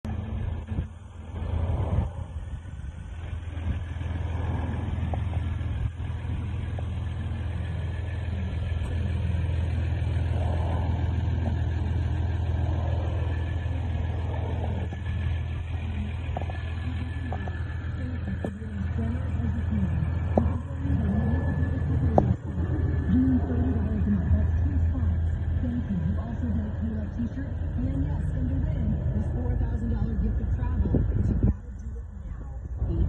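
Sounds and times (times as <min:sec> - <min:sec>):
pickup truck engine humming: 0:00.0 - 0:33.0.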